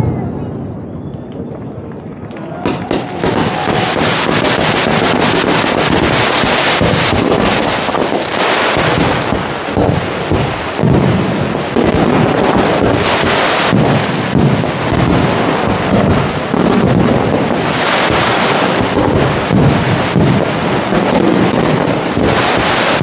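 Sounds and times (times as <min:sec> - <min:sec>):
fireworks crackling and banging: 0:00.0 - 0:23.0
low rumbling: 0:00.0 - 0:23.0.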